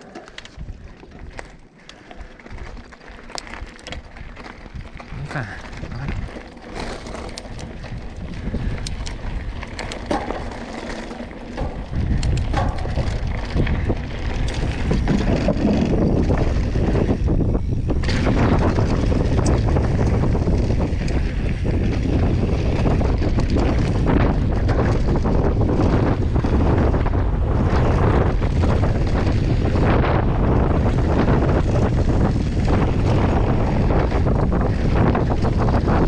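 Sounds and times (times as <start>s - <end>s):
sharp clicks and rattles: 0.0s - 30.0s
wind buffeting microphone: 0.0s - 36.0s.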